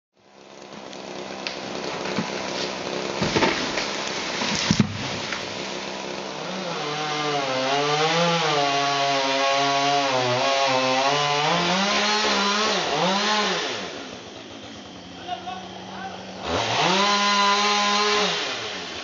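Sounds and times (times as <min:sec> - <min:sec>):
pole saw cutting wood: 0:00.6 - 0:19.0.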